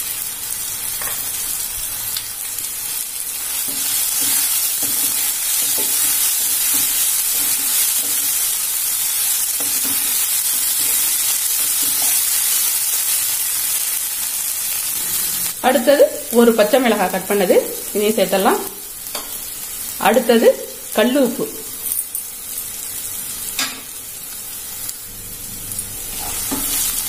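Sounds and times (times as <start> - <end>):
onions and tomatoes sizzling: 0.0 - 27.0.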